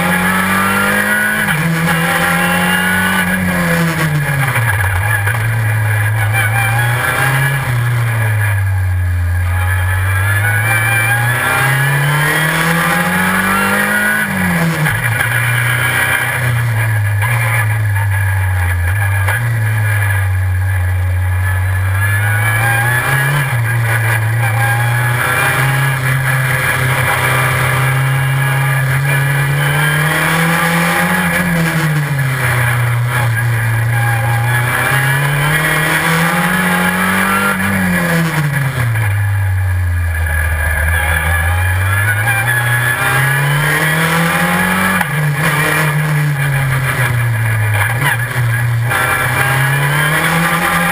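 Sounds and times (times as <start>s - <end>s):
racing car engine revving: 0.0s - 50.9s.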